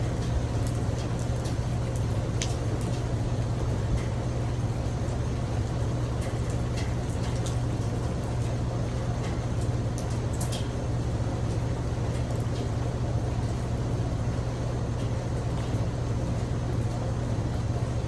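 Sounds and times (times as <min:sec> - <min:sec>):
rain on a tin roof: 0:00.0 - 0:18.0.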